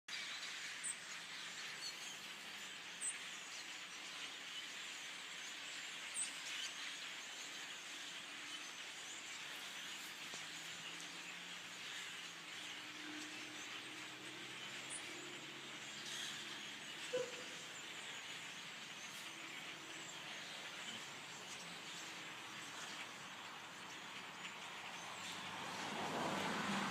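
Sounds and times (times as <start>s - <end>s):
flock of birds chirping: 0.1s - 26.9s.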